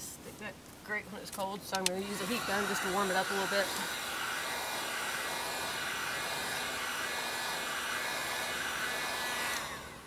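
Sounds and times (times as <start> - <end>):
heat gun blowing: 1.8 - 10.0.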